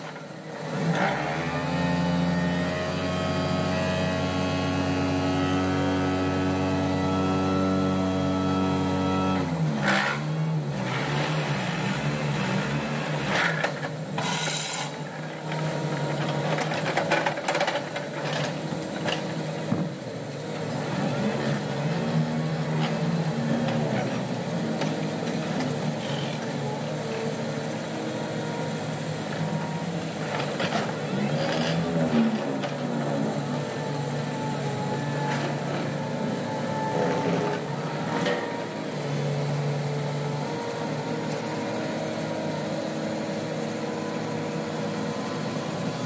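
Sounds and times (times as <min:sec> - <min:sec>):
excavator diesel engines running: 0:00.0 - 0:46.0.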